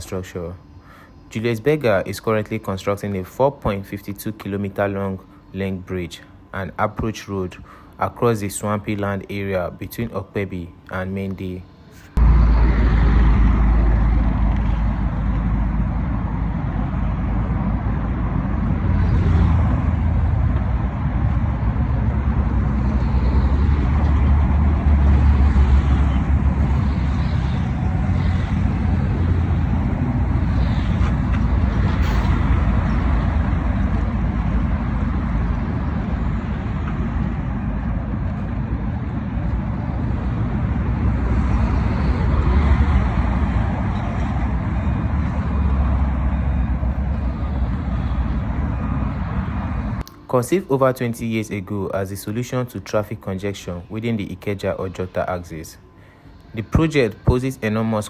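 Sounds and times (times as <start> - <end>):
road vehicle rumble: 0.0 - 58.0.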